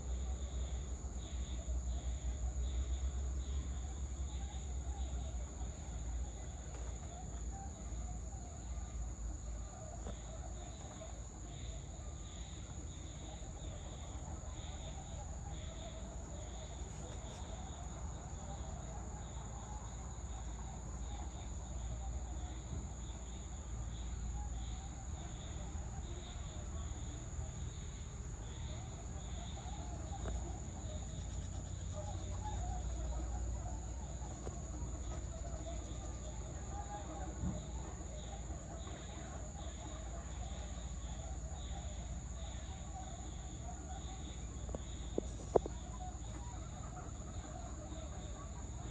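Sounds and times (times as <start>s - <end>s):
insects chirping: 0.0s - 48.9s
insects droning: 0.0s - 48.9s.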